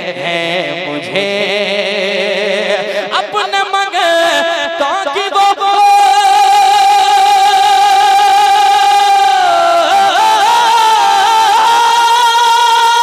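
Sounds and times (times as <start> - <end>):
man singing through microphone: 0.0 - 13.0.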